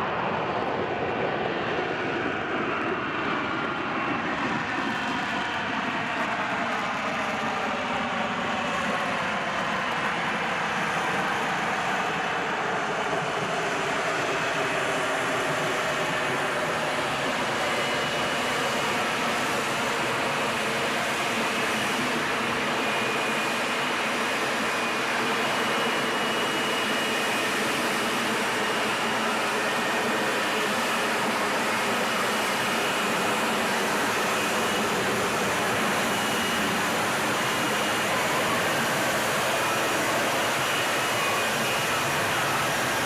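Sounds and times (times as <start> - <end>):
jet engine roaring: 0.0 - 43.0.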